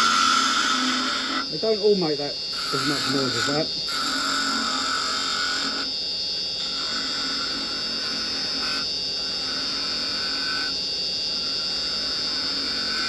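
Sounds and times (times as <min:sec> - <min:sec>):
chisel cutting wood on lathe: 0:00.0 - 0:05.9, 0:06.6 - 0:10.7, 0:11.8 - 0:13.0
lathe motor hum: 0:00.0 - 0:13.0.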